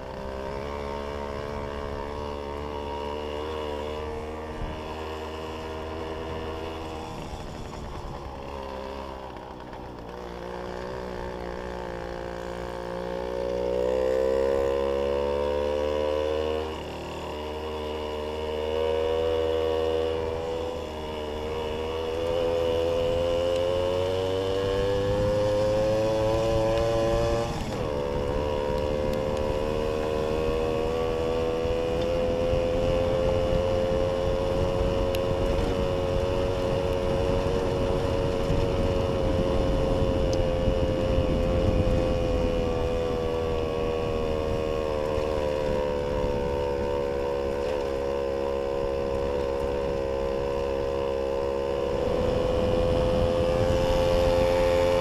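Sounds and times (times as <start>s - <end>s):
moped engine running: 0.0s - 55.0s.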